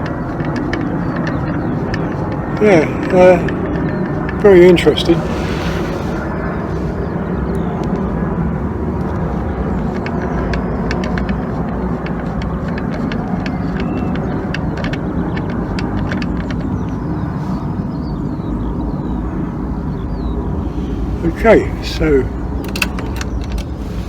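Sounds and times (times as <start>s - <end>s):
low background rumble: 0.8s - 15.7s, 16.6s - 24.0s.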